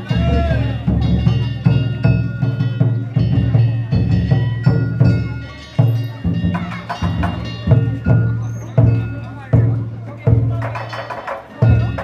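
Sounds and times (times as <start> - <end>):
metal gongs ringing: 0.0 - 12.0
taiko drum beating rhythm: 0.0 - 12.0.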